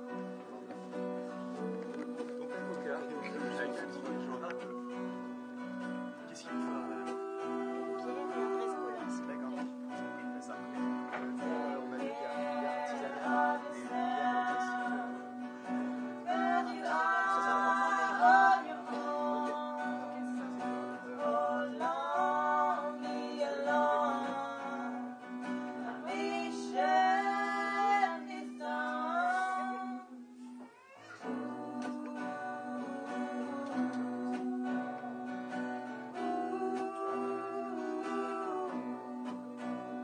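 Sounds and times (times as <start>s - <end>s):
woman singing: 0.0s - 10.2s, 11.2s - 30.4s, 31.2s - 40.0s
strummed acoustic guitars: 0.0s - 40.0s.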